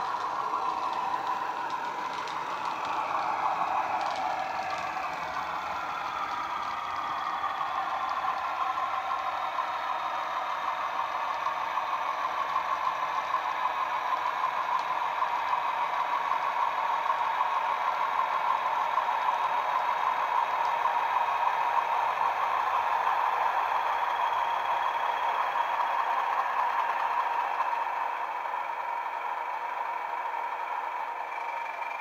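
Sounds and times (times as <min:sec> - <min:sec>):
diesel engine sound from small speaker: 0:00.0 - 0:32.0.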